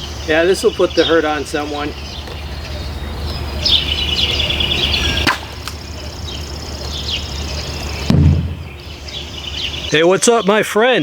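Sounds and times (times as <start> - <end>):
bird trilling: 0.0 - 10.6.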